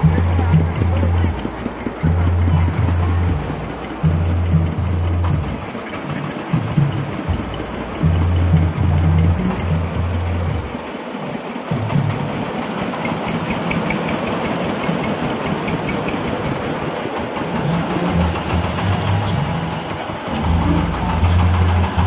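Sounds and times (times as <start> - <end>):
small vehicle engine running: 0.0 - 22.0.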